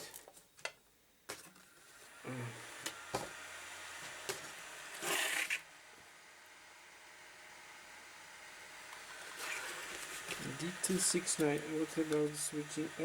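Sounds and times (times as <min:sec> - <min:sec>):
computer fan whir: 0:01.8 - 0:13.0.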